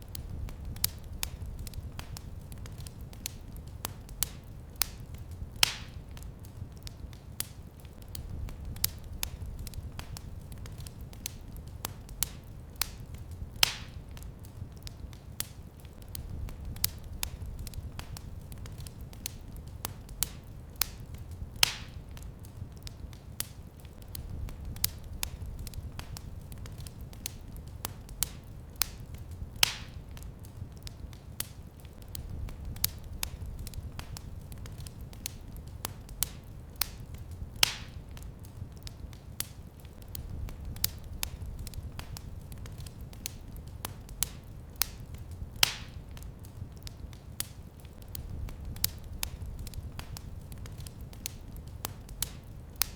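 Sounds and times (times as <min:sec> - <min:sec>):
fire popping: 0:00.0 - 0:52.9
wood fire crackling: 0:00.0 - 0:52.9.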